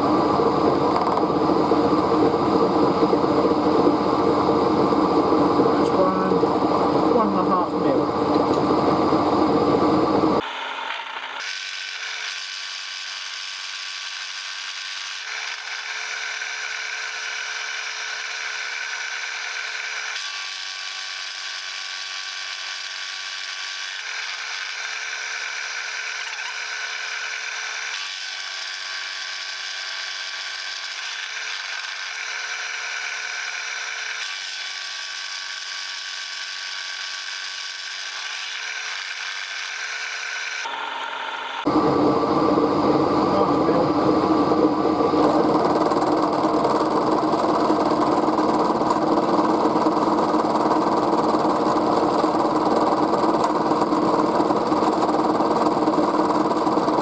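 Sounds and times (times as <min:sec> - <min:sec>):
machine tool cutting steel: 0:00.0 - 0:57.0.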